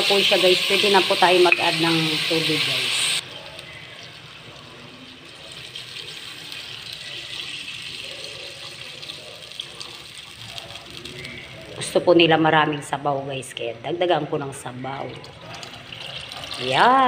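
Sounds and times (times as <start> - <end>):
water pouring into pot: 0.0 - 12.0, 14.8 - 17.0.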